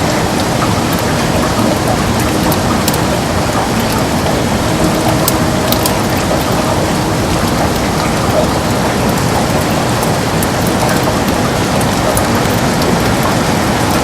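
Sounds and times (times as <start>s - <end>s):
heavy rain on a window: 0.0s - 14.0s
raindrops ticking: 0.0s - 14.0s.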